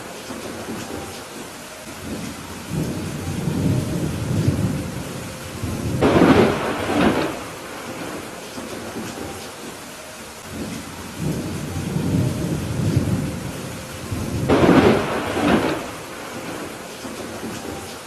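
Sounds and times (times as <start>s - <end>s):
steady rain: 0.0s - 18.0s
rolling thunder: 2.0s - 9.4s, 10.4s - 18.0s.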